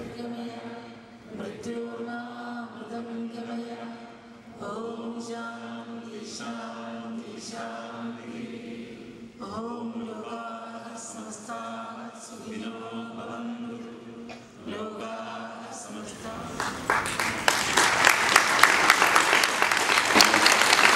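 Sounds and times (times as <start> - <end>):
congregation chanting in unison: 0.0 - 20.9.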